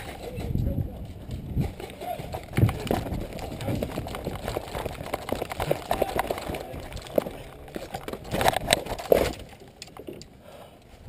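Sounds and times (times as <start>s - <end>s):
clicks knocks and crackles: 0.0s - 10.9s.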